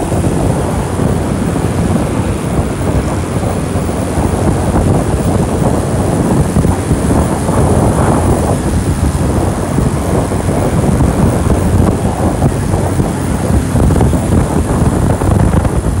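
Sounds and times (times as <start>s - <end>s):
motorcycle and road noise: 0.0s - 16.0s
wind buffeting microphone: 0.0s - 16.0s.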